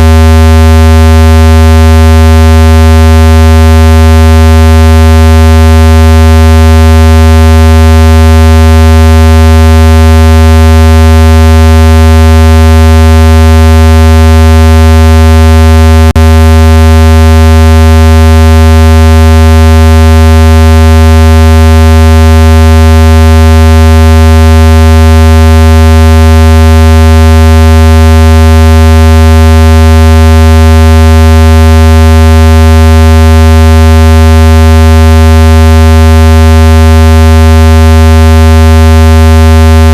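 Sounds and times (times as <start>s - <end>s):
low buzzing speaker-cleaning tone: 0.0s - 34.2s, 36.7s - 39.9s.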